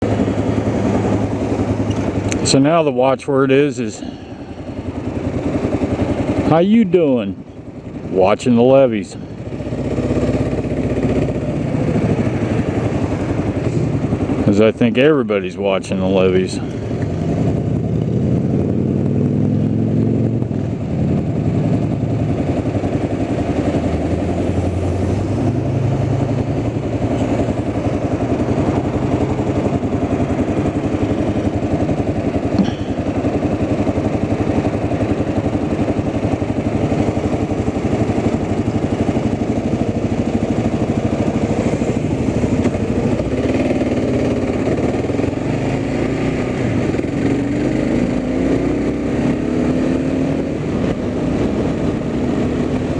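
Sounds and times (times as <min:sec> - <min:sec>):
road rumble: 0:00.0 - 0:52.9
vehicle engine: 0:00.0 - 0:52.9.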